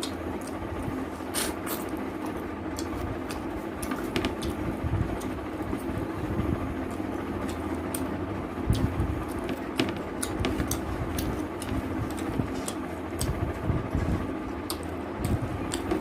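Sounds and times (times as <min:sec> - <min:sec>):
chewing and mouth smacking: 0:00.0 - 0:05.9, 0:06.8 - 0:16.0.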